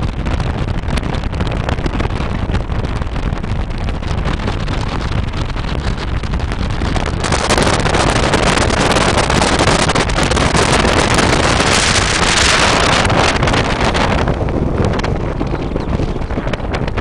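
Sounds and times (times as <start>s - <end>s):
engine and tyre rumble: 0.0s - 17.0s
wind buffeting microphone: 0.0s - 17.0s.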